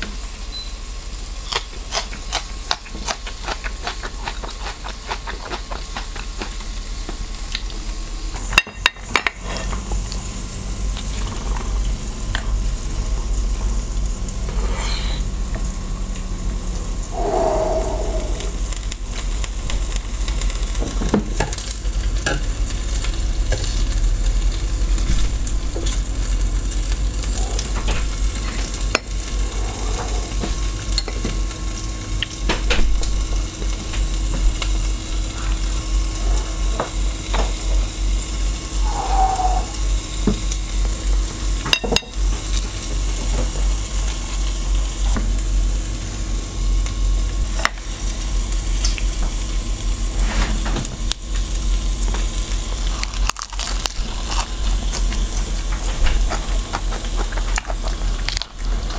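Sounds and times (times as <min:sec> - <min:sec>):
meat sizzling on a grill pan: 0:00.0 - 0:02.7, 0:05.9 - 0:16.5, 0:17.1 - 0:58.9.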